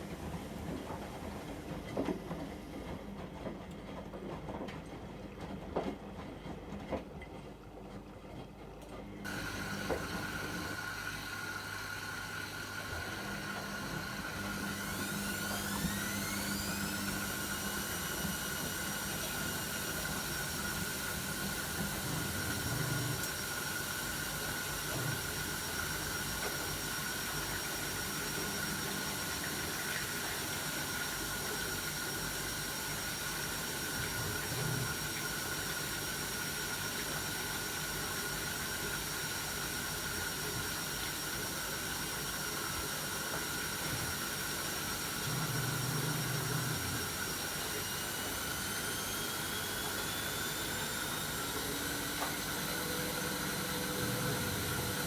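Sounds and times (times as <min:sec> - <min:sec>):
washing machine motor whine: 0:00.0 - 0:07.1, 0:07.9 - 0:55.0.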